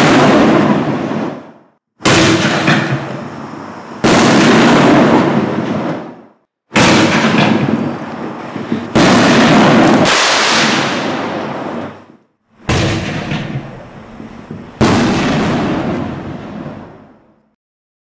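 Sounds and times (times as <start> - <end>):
fireworks bangs: 0.0 - 17.4.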